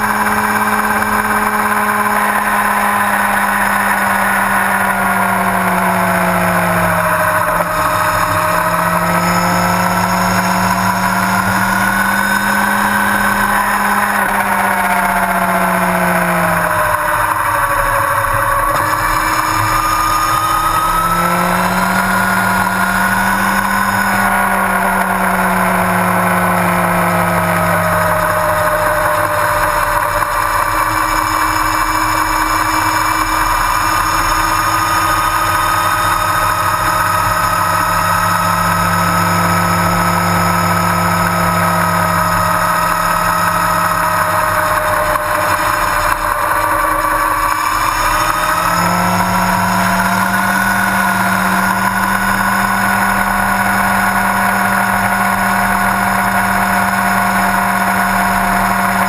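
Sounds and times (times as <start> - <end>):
motorcycle engine cruising: 0.0 - 59.0
wind and road noise: 0.0 - 59.0.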